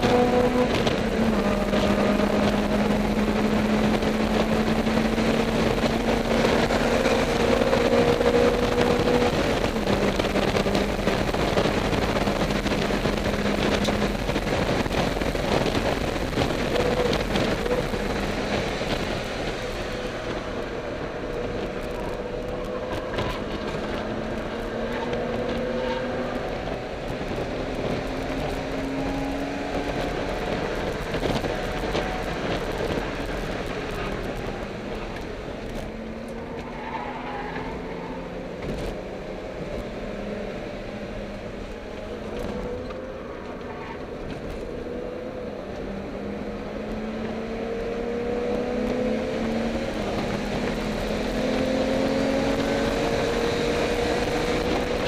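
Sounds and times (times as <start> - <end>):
car engine from inside cabin: 0.0 - 36.7, 37.6 - 55.0
road noise: 0.0 - 55.0.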